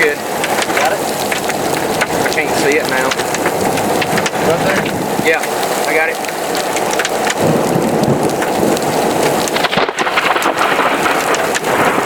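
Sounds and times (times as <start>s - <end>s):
heavy rain pelting: 0.0s - 12.0s.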